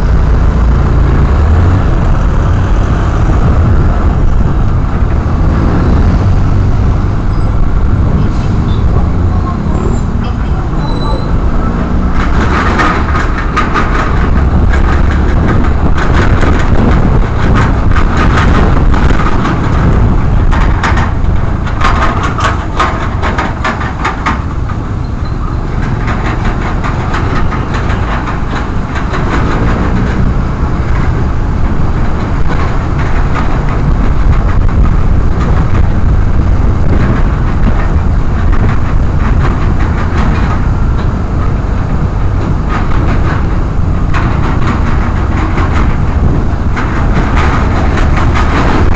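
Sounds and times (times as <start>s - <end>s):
motorcycle engine and road rumble: 0.0s - 48.9s.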